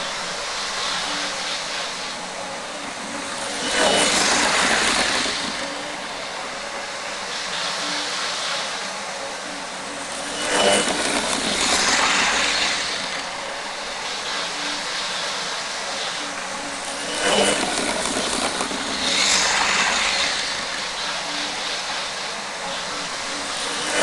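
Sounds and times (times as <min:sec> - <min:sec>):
model train motors whirring: 0:00.0 - 0:24.0.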